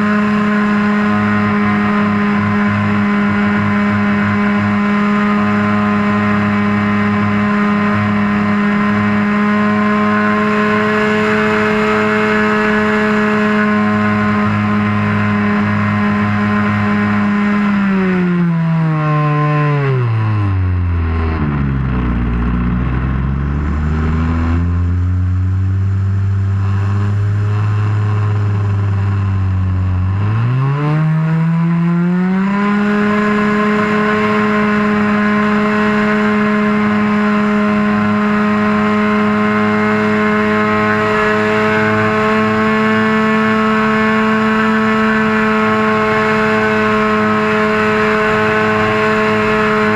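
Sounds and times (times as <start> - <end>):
model airplane engine: 0.0 - 49.9.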